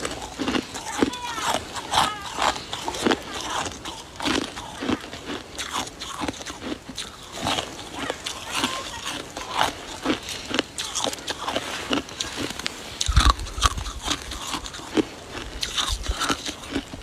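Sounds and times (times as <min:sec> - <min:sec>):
ice and snow crunching: 0:00.0 - 0:17.0.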